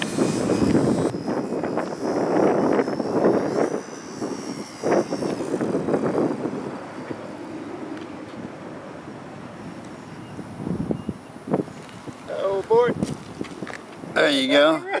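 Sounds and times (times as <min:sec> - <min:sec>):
wind buffeting microphone: 0:00.0 - 0:14.7
electric motor whine: 0:00.0 - 0:14.8.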